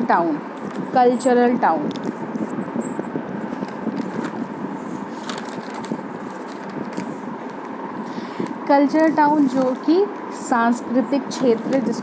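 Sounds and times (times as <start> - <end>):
steady microphone hiss: 0.0 - 12.0.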